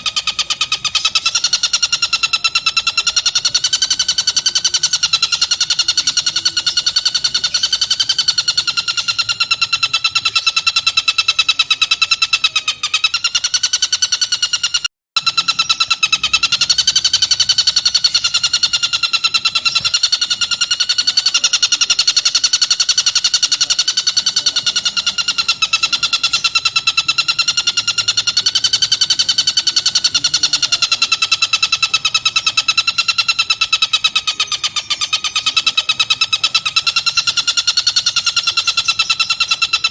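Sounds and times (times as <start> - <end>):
kingfisher chattering trill: 0.0 - 39.9.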